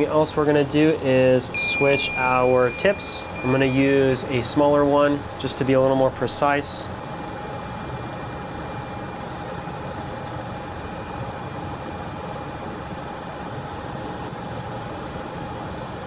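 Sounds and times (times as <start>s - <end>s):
extractor fan whirring: 0.0s - 16.0s.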